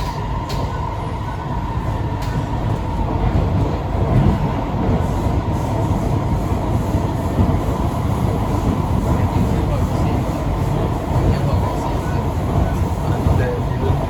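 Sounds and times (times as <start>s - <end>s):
steady train whine: 0.0s - 14.0s
train wheels rumbling on track: 0.0s - 14.0s.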